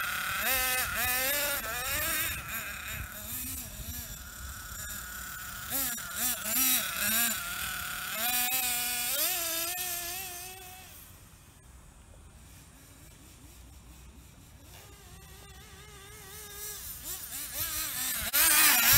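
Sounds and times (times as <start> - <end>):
nitro engine revving: 0.0 - 11.2, 14.6 - 18.9.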